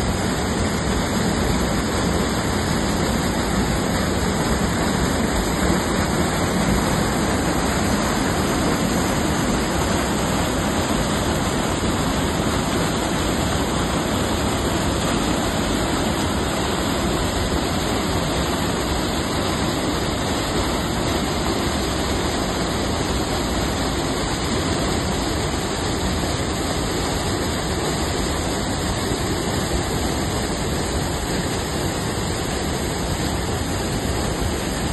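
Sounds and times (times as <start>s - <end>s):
river water rushing over boulders: 0.0s - 34.9s.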